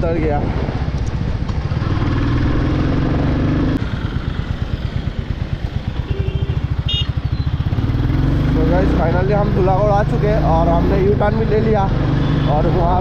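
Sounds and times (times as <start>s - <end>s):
motorcycle engine running: 0.6s - 13.0s.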